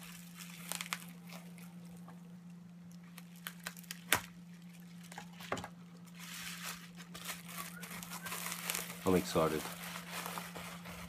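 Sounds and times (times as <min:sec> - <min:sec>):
packaging crinkling: 0:00.0 - 0:02.1, 0:02.9 - 0:11.0.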